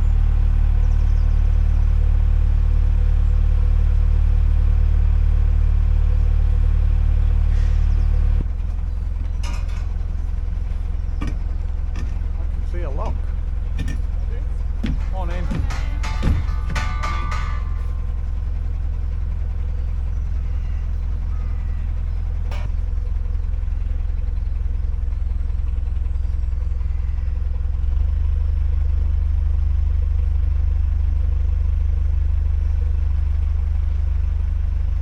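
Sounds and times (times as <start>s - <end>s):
diesel engine rumbling: 0.0s - 34.9s.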